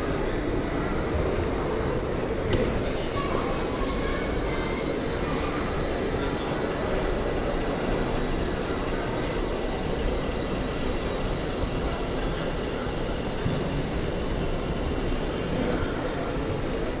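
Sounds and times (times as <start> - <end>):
boat lift mechanical drone: 0.0 - 17.0.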